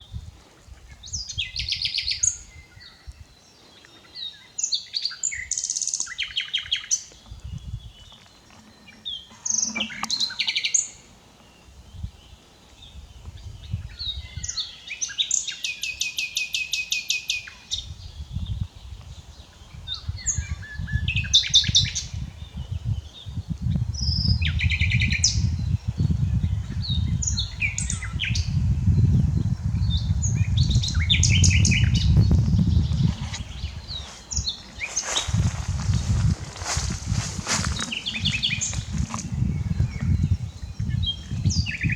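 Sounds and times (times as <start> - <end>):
nightingale singing: 0.9 - 41.9.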